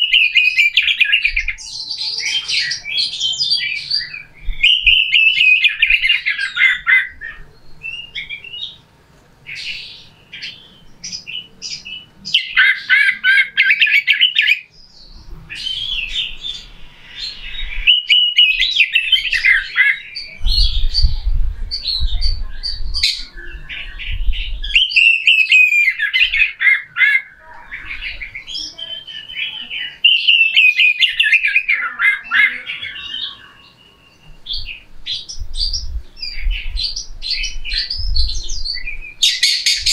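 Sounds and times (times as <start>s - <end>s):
bird singing harsh song: 0.0s - 39.9s.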